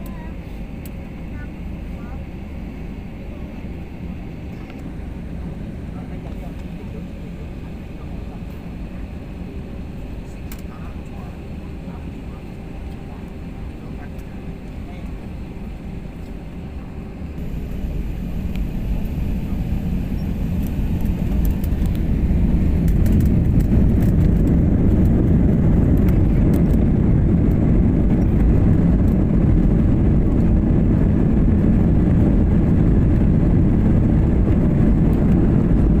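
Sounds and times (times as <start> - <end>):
jet engines rumbling on takeoff: 0.0 - 36.0.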